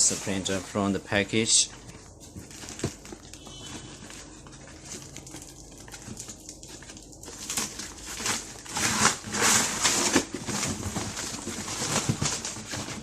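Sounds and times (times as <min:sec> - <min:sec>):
cardboard box packaging rustling: 0:00.0 - 0:13.0.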